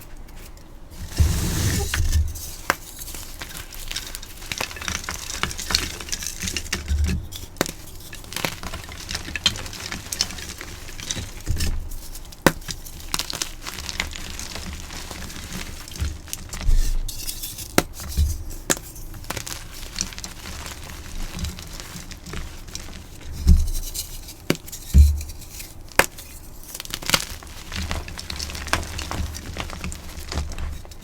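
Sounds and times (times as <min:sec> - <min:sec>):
chalk blocks crackling and crunching: 0:00.3 - 0:31.0.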